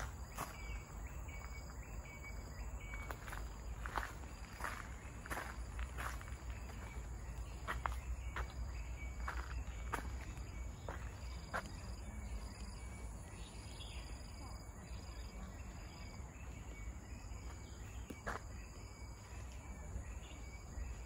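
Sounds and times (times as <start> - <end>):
insects calling: 0.0 - 21.0.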